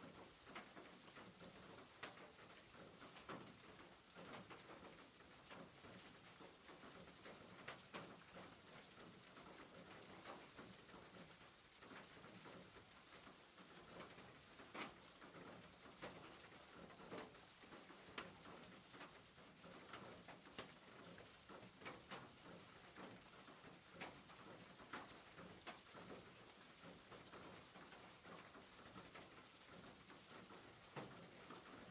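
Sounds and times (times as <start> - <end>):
rain pattering on a roof: 0.0 - 31.9
raindrops ticking: 0.0 - 31.9.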